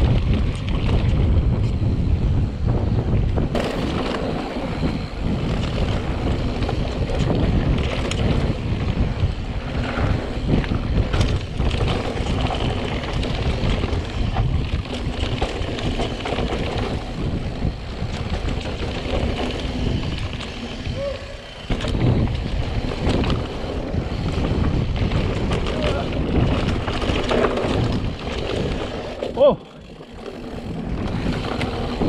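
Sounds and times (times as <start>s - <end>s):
bike knocks and rattles: 0.0s - 32.0s
wind buffeting microphone: 0.0s - 32.0s.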